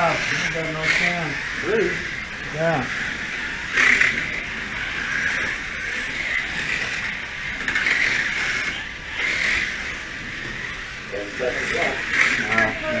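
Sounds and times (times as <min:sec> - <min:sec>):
small race cars whirring: 0:00.0 - 0:13.0.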